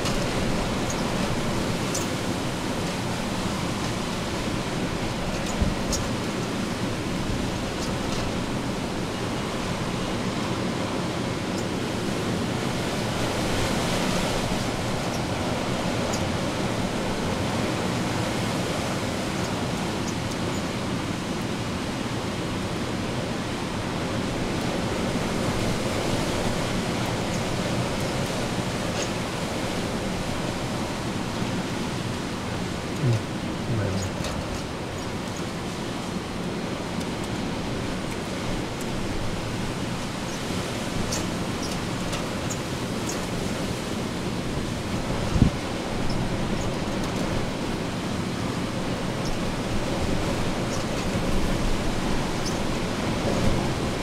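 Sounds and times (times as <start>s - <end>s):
wind and rain rushing: 0.0s - 54.0s.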